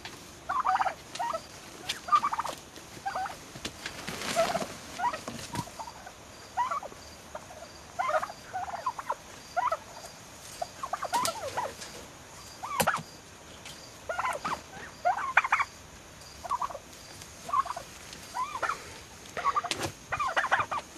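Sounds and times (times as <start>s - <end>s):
turkeys calling: 0.4s - 13.1s, 13.7s - 20.9s.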